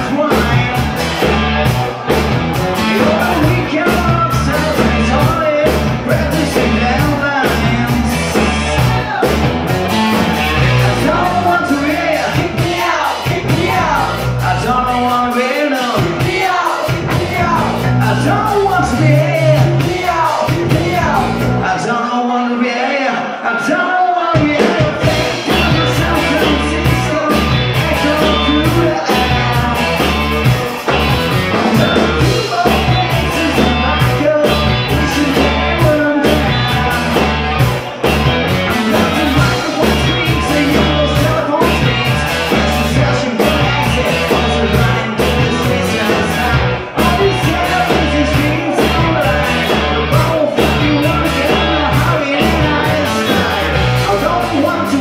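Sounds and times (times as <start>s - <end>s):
driving drumming: 0.0s - 21.8s, 24.4s - 55.0s
live rock band playing: 0.0s - 22.1s, 24.3s - 55.0s
person singing: 0.0s - 55.0s.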